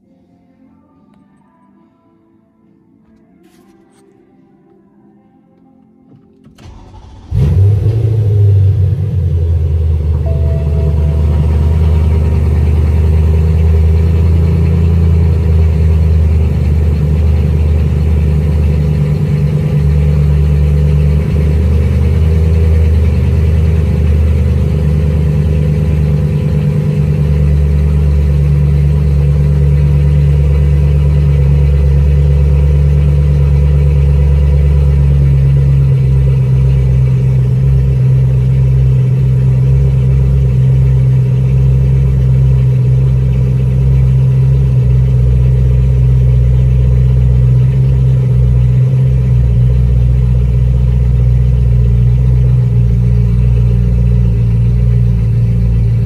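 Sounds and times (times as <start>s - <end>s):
car engine cold start and idle: 6.1s - 56.0s.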